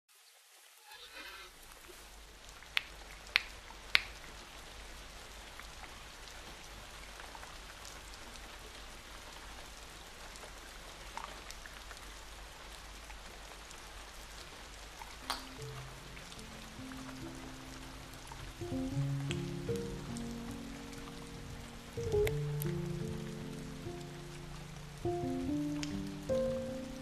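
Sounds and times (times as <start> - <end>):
steady rain: 0.1 - 27.0.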